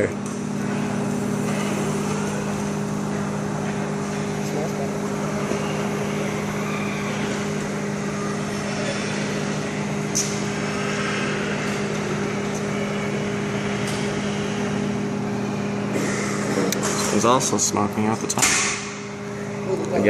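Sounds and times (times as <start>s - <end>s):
microwave fan noise: 0.0s - 20.0s
microwave oven humming: 0.0s - 20.0s.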